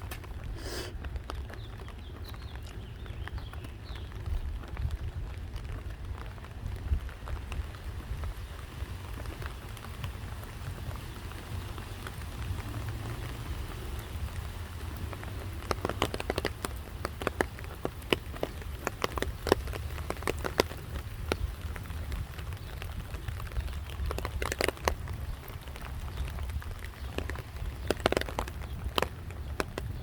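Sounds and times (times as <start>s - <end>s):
rain falling: 0.0s - 30.0s
raindrops ticking: 0.0s - 30.0s.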